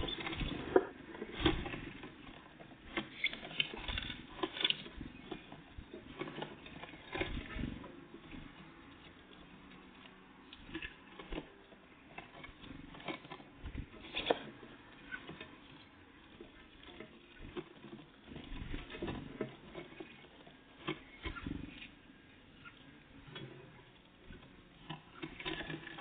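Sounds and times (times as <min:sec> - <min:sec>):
birds pecking and tapping: 0:00.0 - 0:26.0.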